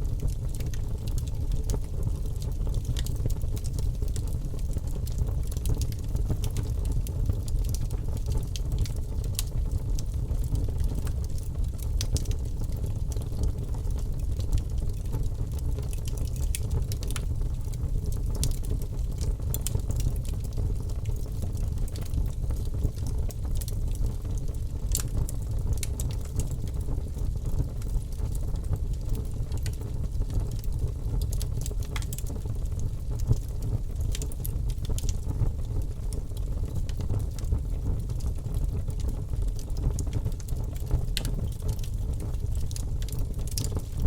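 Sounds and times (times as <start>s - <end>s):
logs crackling in fireplace: 0.0s - 44.0s
low rumble of fire: 0.0s - 44.0s.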